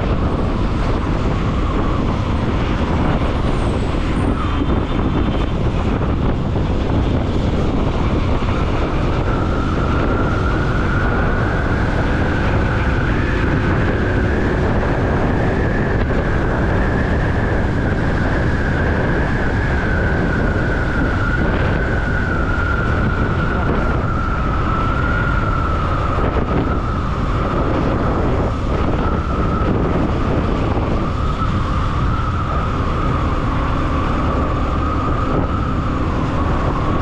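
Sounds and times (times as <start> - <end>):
road noise: 0.0 - 37.0
whine: 0.0 - 37.0
wind noise: 0.0 - 37.0.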